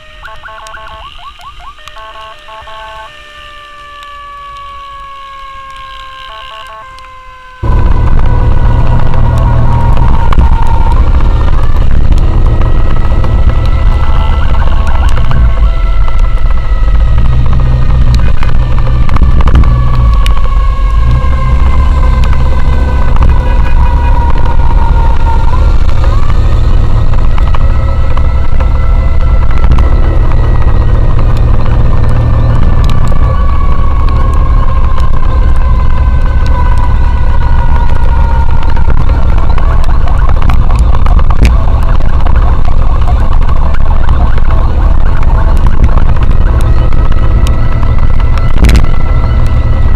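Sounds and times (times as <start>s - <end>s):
falling pitched tone: 0.0s - 49.9s
motorcycle road rumble: 0.0s - 49.9s.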